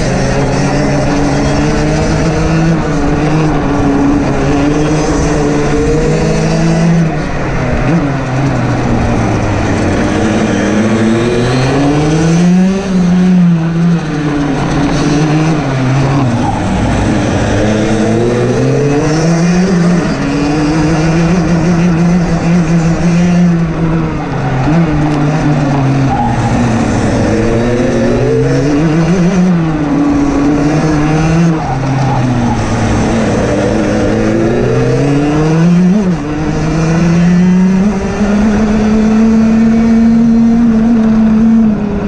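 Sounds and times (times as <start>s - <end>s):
two-stroke kart engine revving: 0.0s - 42.0s.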